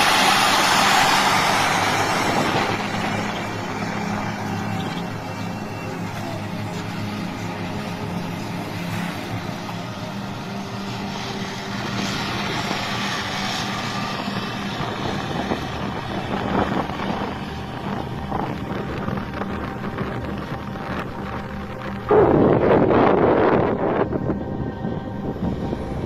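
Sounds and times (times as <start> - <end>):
heavy diesel tractor engine: 0.0 - 26.0
rushing noise: 0.0 - 26.0.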